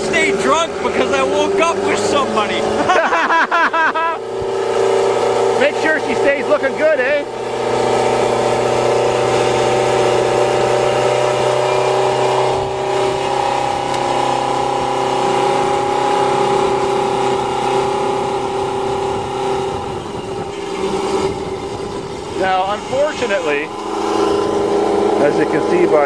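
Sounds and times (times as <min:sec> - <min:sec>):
motorcycle engine running: 0:04.0 - 0:26.0.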